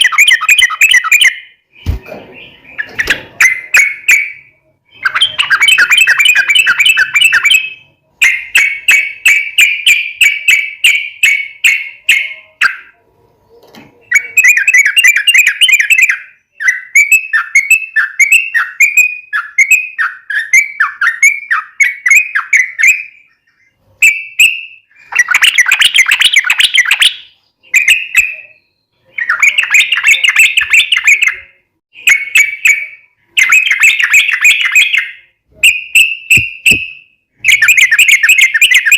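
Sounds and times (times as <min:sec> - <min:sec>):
bulbul chattering song: 0:00.0 - 0:13.0, 0:14.0 - 0:38.9.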